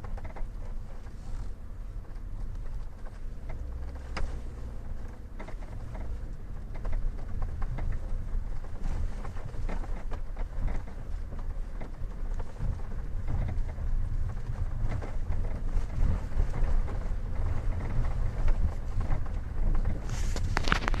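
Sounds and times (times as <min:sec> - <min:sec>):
car knocks and creaks: 0:00.0 - 0:21.0
low road rumble: 0:00.0 - 0:21.0.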